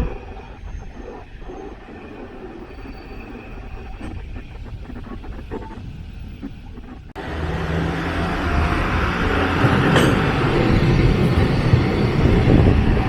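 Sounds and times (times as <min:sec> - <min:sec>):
tram motor hum and wheel noise: 0:00.0 - 0:13.0.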